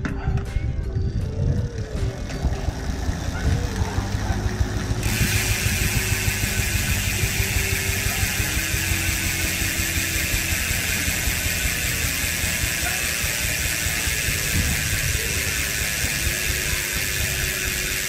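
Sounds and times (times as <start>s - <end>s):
low hum: 0.9s - 17.9s
freehub ratchet buzzing: 1.2s - 18.0s.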